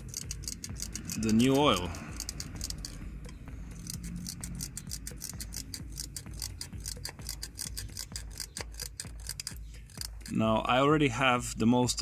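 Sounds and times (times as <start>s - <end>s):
hand oil pump clicking: 0.0s - 10.4s.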